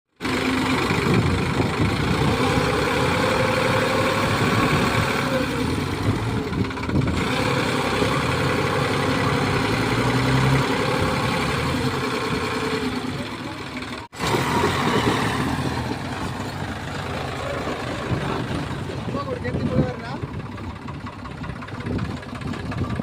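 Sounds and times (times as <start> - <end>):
tractor diesel engine running: 0.1 - 23.0.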